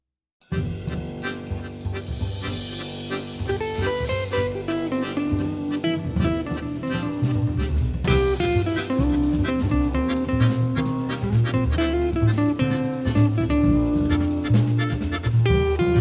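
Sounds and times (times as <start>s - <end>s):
jazzy guitar and bass music: 0.5s - 16.0s.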